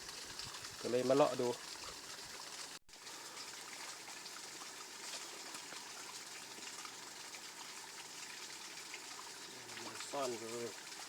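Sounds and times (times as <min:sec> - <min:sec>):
water running over small waterfall: 0:00.0 - 0:11.0.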